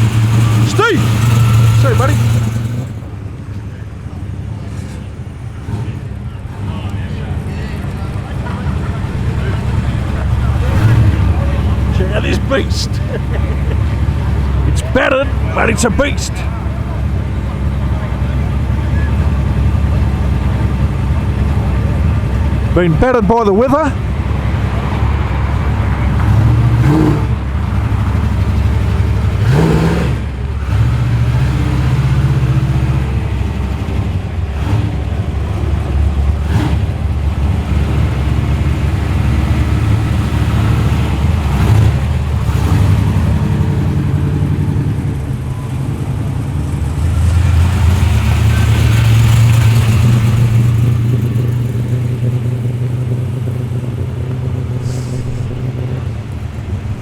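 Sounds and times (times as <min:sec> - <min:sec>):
muscle car engines revving: 0:00.0 - 0:57.0.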